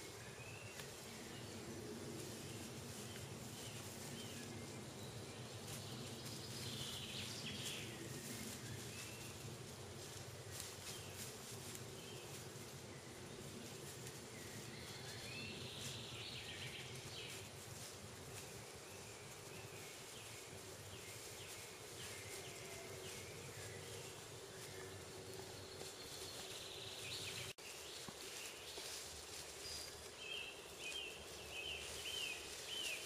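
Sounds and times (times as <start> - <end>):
faint background hiss: 0.0 - 33.0.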